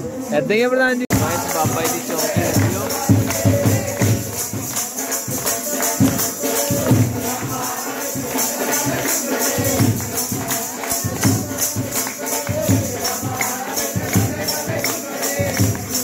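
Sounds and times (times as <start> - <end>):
jingling percussion: 0.0 - 16.0
drum beat: 1.1 - 16.0.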